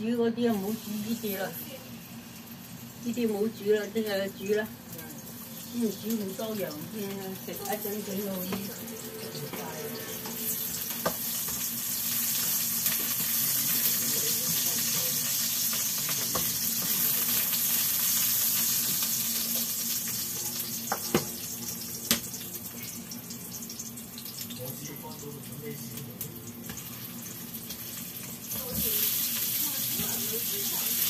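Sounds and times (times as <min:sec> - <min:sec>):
oil sizzling in a frying pan: 0:00.0 - 0:31.0.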